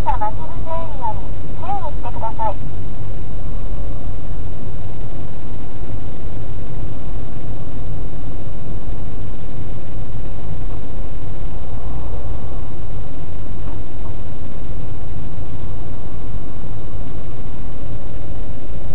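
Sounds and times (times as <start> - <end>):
car engine and road noise: 0.0 - 18.9.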